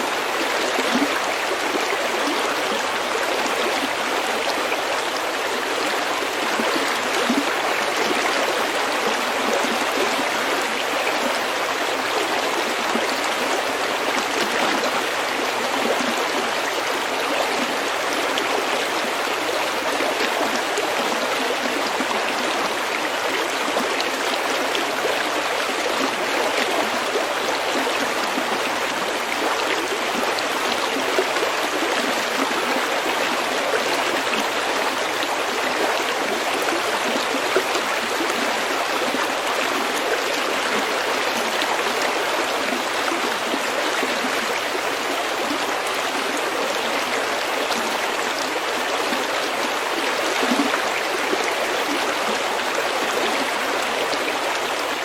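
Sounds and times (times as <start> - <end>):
stream babbling over pebbles: 0.0 - 55.0.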